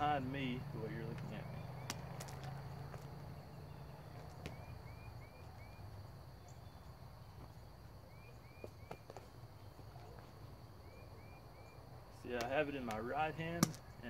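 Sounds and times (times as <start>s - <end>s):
bird chirping: 0.0s - 14.0s
high insect-like hum: 0.0s - 14.0s.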